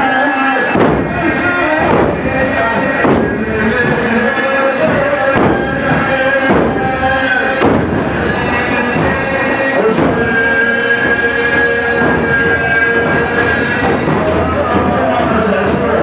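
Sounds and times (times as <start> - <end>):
man chanting a lament: 0.0 - 16.0
chest beating thumps: 0.7 - 16.0.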